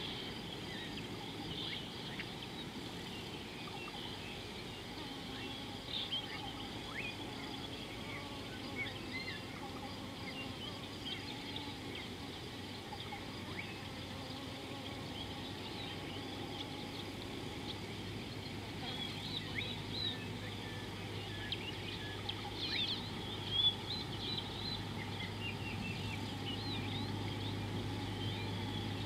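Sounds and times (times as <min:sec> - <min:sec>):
low background noise: 0:00.0 - 0:29.0
small birds chirping: 0:00.0 - 0:29.0.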